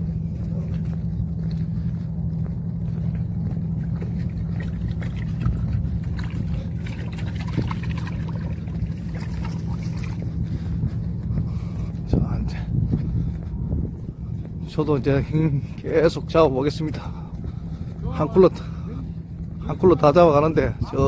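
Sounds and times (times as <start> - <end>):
low mechanical hum and rumble: 0.0 - 21.0.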